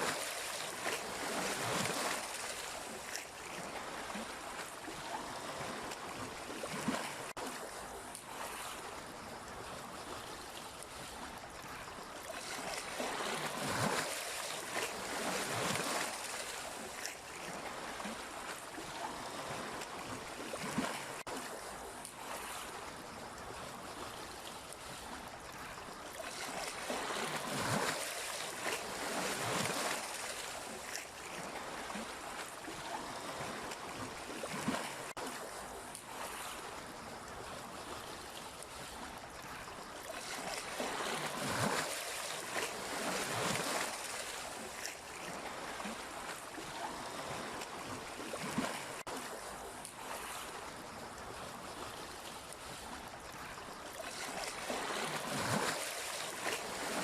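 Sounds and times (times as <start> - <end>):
sea waves washing onto shore: 0.0 - 37.0, 37.6 - 57.0.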